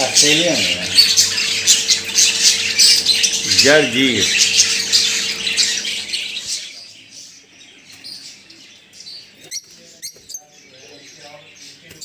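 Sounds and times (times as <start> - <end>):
birds chattering and squawking: 0.0 - 12.0.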